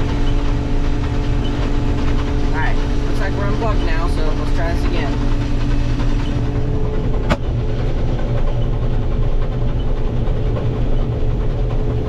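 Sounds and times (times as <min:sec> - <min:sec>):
farm machinery engine droning: 0:00.0 - 0:12.0.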